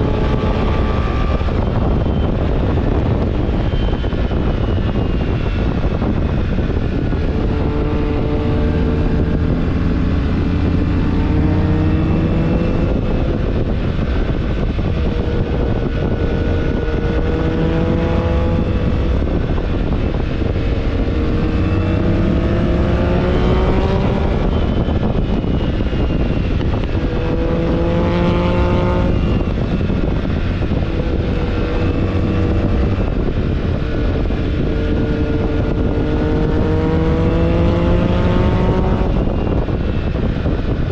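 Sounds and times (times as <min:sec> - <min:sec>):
motorcycle engine revving: 0:00.0 - 0:40.9
wind on microphone: 0:00.0 - 0:40.9.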